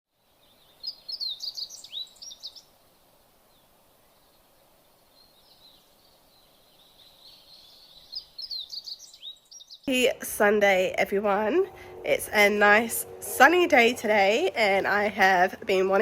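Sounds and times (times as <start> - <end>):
distant birdsong: 0.1 - 16.0
songbird chirping: 0.2 - 16.0.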